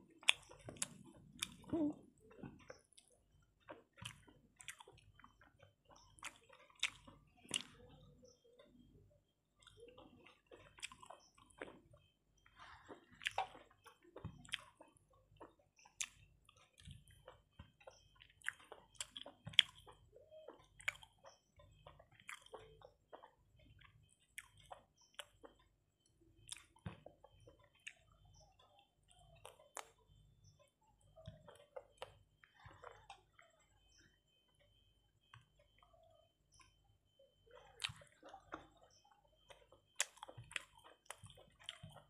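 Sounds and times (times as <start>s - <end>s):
person chewing with mouth smacks: 0.1s - 8.9s, 9.5s - 36.8s, 37.4s - 42.0s.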